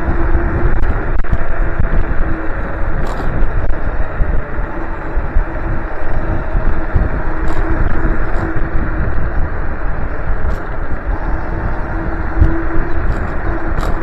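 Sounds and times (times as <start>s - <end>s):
low road rumble: 0.0s - 14.0s
steady whine: 0.0s - 14.0s
wind buffeting microphone: 0.0s - 14.0s.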